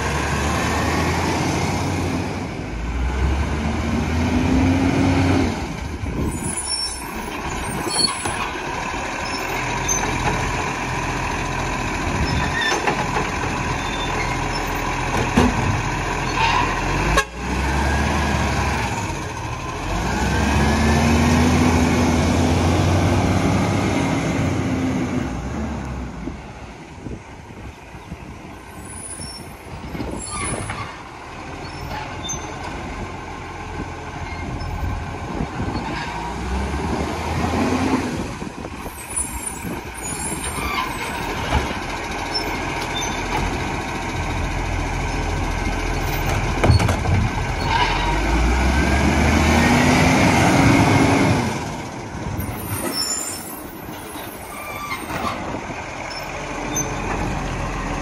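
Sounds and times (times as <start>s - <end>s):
diesel truck engine: 0.0s - 58.0s.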